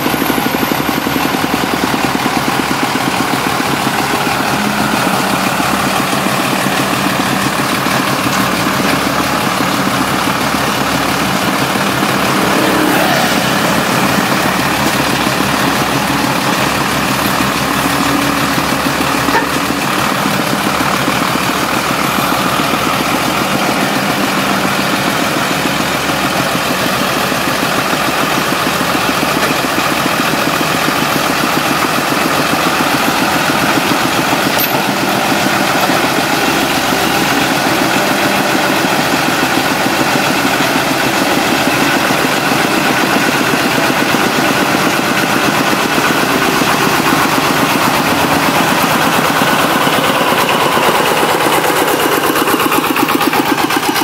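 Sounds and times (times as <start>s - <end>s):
heavy diesel engines running: 0.0s - 54.0s.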